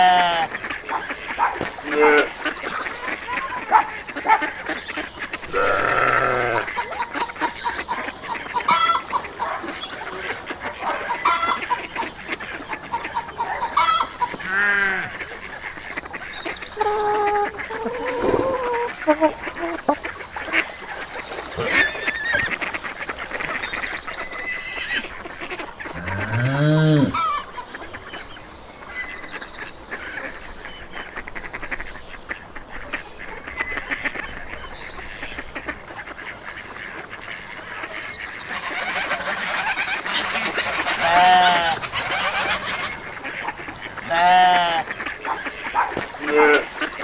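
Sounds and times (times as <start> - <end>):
geese honking: 0.0 - 28.1, 35.4 - 47.0
chatter of other birds: 0.0 - 47.0.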